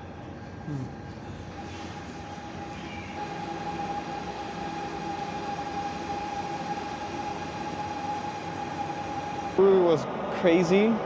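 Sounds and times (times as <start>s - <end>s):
machine noise with high whine: 0.0s - 11.0s.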